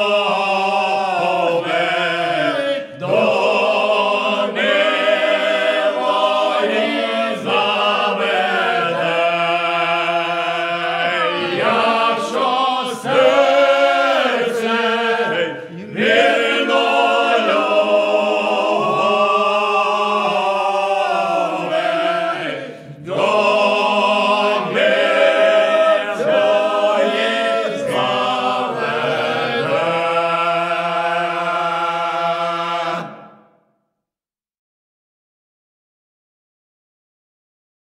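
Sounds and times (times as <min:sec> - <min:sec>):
choir singing a cappella: 0:00.0 - 0:33.6.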